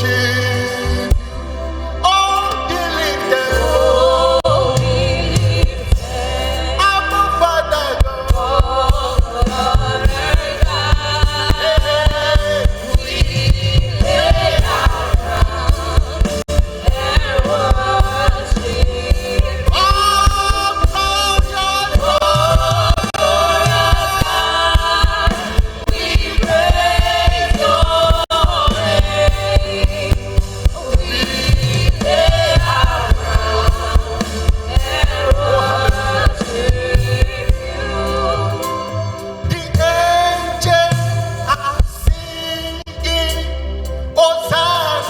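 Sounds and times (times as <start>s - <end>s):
band playing a steady beat: 0.0s - 1.7s, 2.4s - 42.8s
singers carrying a melody: 0.0s - 43.2s.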